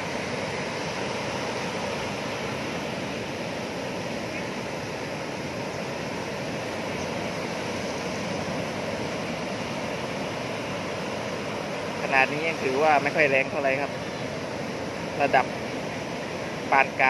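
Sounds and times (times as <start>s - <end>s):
sea surf: 0.0s - 17.0s
strong wind: 0.0s - 17.0s.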